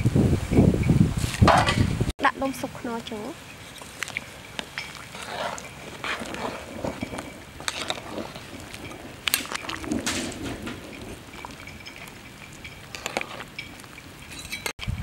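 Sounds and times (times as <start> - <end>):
soup boiling and bubbling: 2.4 - 15.0.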